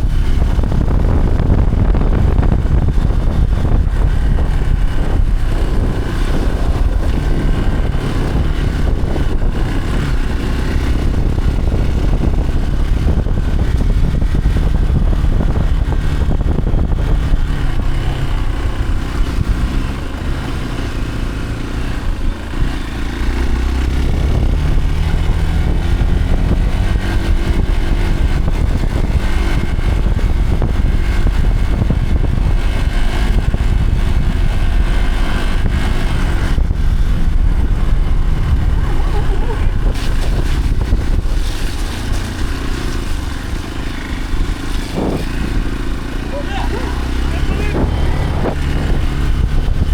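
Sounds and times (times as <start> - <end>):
vehicle engine rumbling: 0.0 - 49.9.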